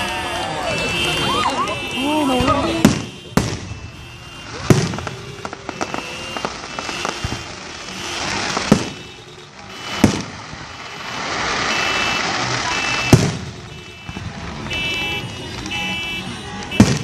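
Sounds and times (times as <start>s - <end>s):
loud firework bangs: 0.0s - 16.1s, 16.7s - 17.0s
firework cracks: 0.0s - 17.0s
car alarm beeping: 0.2s - 17.0s
firework crackling hiss: 2.2s - 15.9s.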